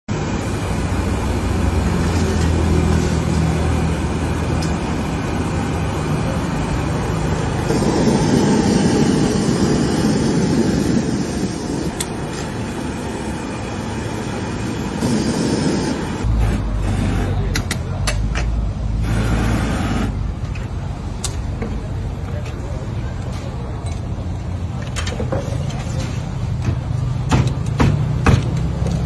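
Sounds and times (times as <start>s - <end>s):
engine hum: 0.1s - 29.0s
road traffic noise: 0.1s - 29.0s.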